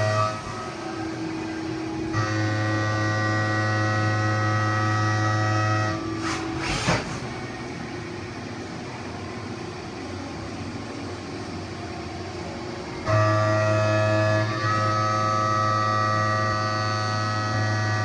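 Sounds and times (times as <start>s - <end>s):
mill machine whine: 0.0s - 18.0s.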